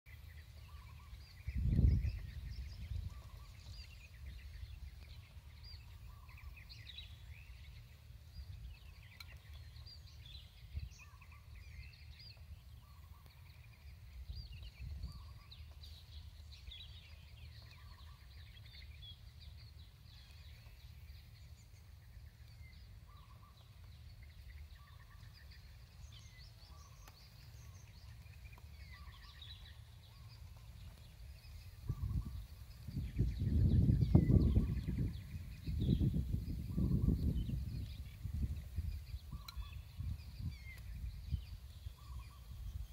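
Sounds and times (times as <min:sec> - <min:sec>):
low soft bird call: 0:00.1 - 0:42.9
small birds chirping: 0:00.1 - 0:42.9
wind on microphone: 0:00.3 - 0:23.6, 0:24.2 - 0:42.9.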